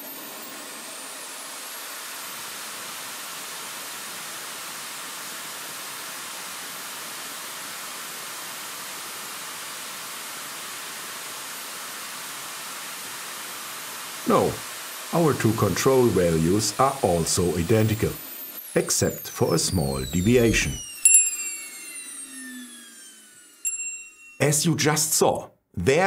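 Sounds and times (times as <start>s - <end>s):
model jet turbine whine: 0.0s - 25.2s.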